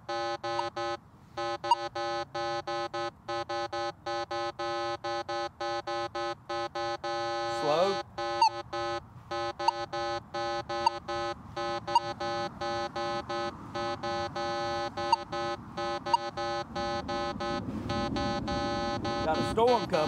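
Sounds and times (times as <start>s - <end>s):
high-pitched detector beeps: 0.0s - 20.0s
low buzzy metal detector tone: 0.0s - 20.0s.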